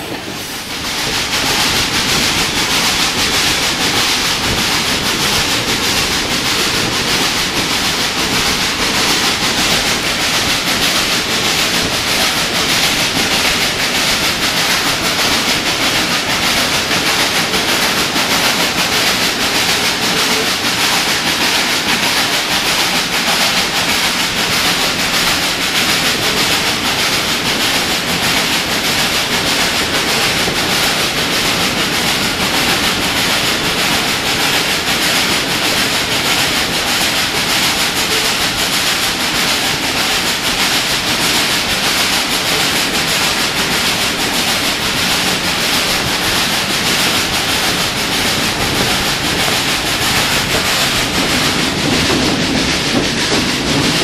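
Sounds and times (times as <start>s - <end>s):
rushing air: 0.0s - 54.0s
steel wheels on rails: 0.0s - 54.0s.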